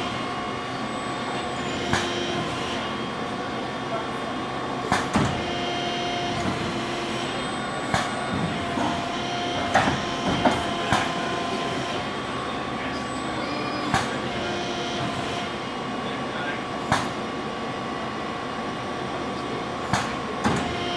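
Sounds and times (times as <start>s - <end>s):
machine whine: 0.0s - 20.9s.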